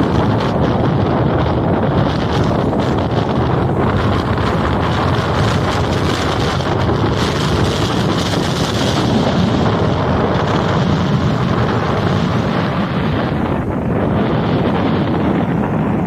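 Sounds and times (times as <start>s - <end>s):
sea surf breaking: 0.0s - 16.0s
wind buffeting microphone: 0.0s - 16.0s.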